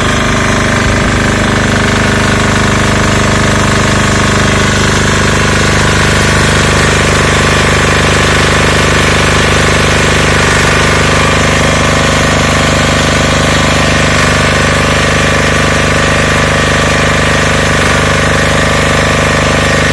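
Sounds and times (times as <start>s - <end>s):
diesel engine knocking: 0.0s - 19.9s.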